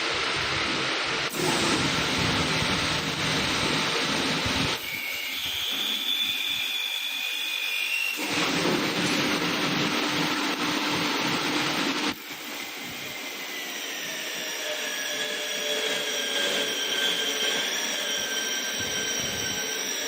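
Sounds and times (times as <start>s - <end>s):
machine whine: 0.0s - 20.0s
hissing grind of glass drill: 1.3s - 10.6s, 11.3s - 20.0s.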